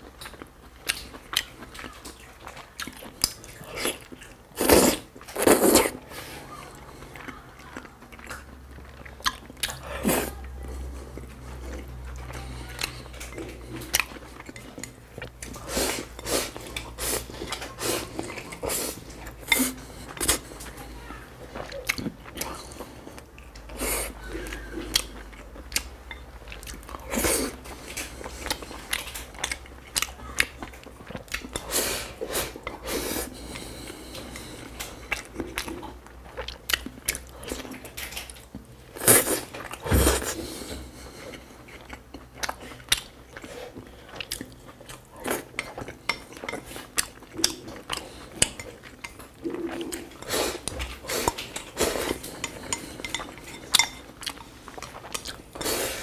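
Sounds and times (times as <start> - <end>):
wet chewing and mouth smacks: 0.0 - 5.8, 7.1 - 20.8, 21.4 - 56.0.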